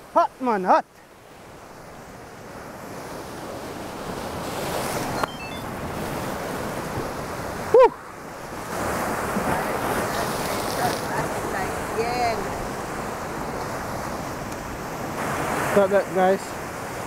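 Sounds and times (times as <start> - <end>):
wind: 0.0 - 17.0
surf breaking on rocky shore: 1.4 - 17.0.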